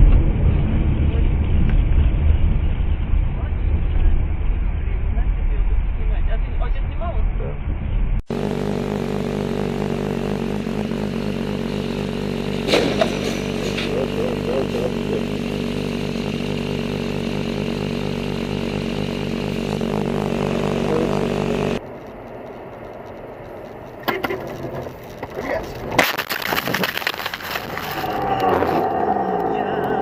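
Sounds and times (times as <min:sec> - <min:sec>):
road noise: 0:00.0 - 0:30.0
vehicle engine running: 0:00.0 - 0:30.0.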